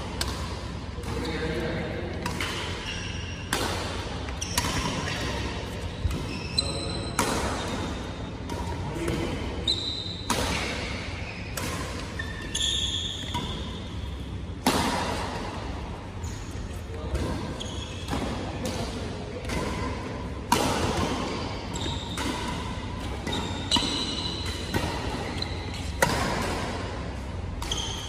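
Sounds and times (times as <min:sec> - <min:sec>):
rackets hitting shuttlecock: 0:00.0 - 0:28.0.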